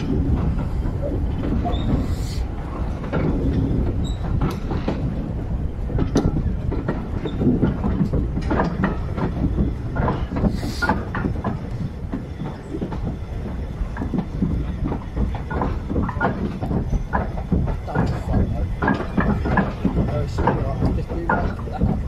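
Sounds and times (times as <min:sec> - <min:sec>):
train wheels clattering: 0:00.0 - 0:22.0.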